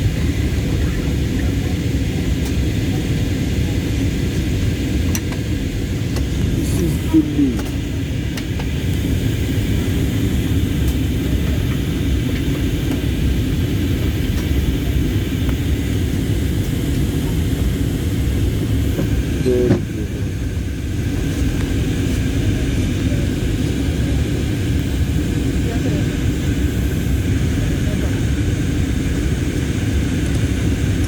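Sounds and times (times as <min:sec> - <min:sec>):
airliner engines roaring in cabin: 0:00.0 - 0:31.0.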